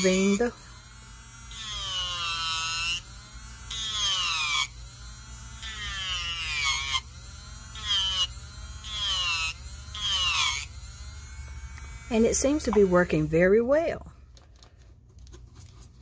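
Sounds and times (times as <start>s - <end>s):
electric nail drill whining: 0.0s - 14.1s.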